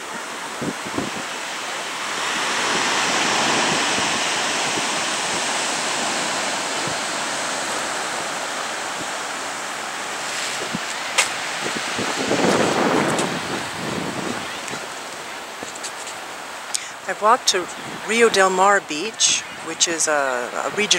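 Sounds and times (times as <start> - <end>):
ocean surf rushing: 0.0 - 20.9
wind buffeting microphone: 0.0 - 20.9.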